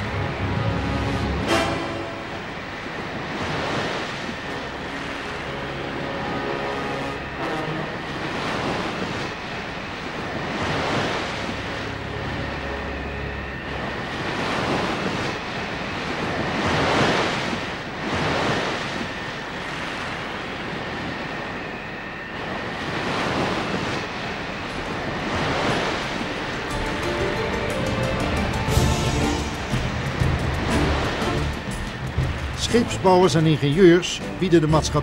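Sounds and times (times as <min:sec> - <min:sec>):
sea waves breaking: 0:00.0 - 0:35.0
wind: 0:00.0 - 0:35.0.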